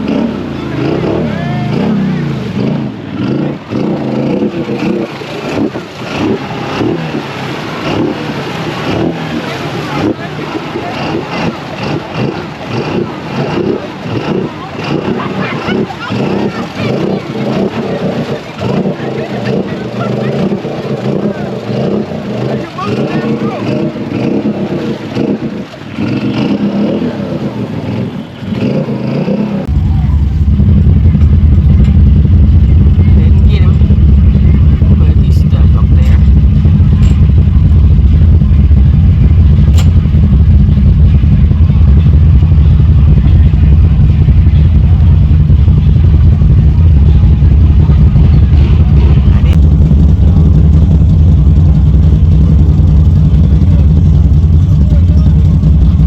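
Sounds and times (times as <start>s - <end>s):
atv engine revving: 0.0s - 56.0s
loud steady low rumble: 0.0s - 56.0s.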